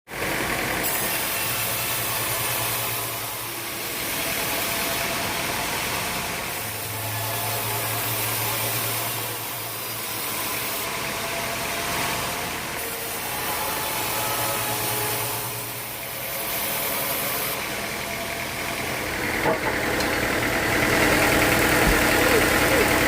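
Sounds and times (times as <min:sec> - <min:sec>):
sawmill motor hum: 0:00.1 - 0:23.0.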